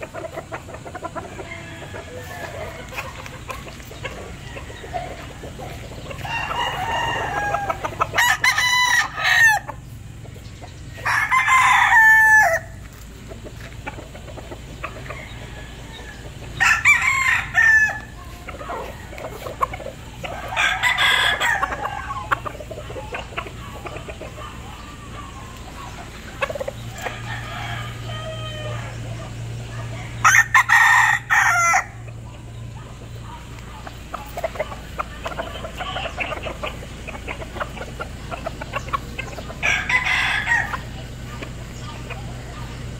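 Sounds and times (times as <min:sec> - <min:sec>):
roosters crowing: 0:00.0 - 0:42.9.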